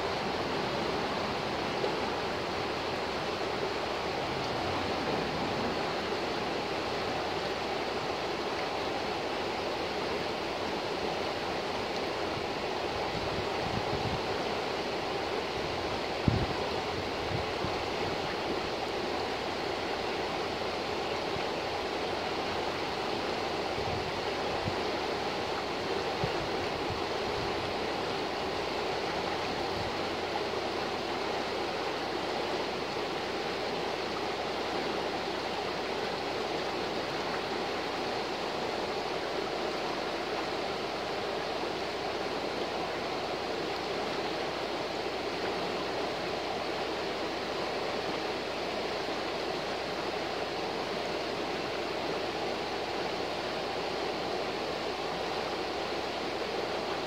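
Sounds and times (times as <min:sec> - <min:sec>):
river rapids rushing over rocks: 0:00.0 - 0:57.0.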